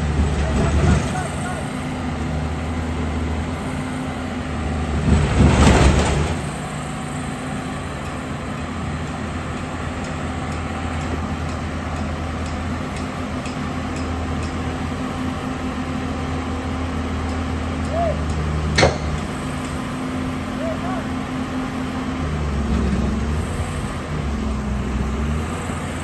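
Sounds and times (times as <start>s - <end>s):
heavy diesel engines running: 0.0s - 26.0s.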